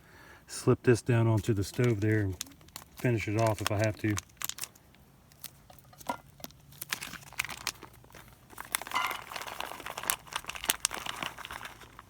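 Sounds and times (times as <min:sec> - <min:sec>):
food packaging crinkling: 0:01.4 - 0:12.0.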